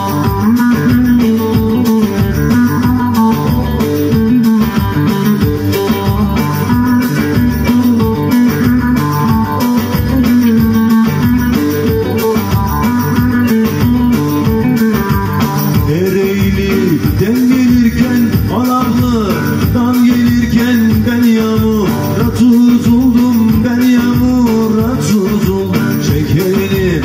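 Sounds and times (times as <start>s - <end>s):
amplified lute folk melody: 0.0s - 27.0s
steady backing beat: 0.0s - 27.0s.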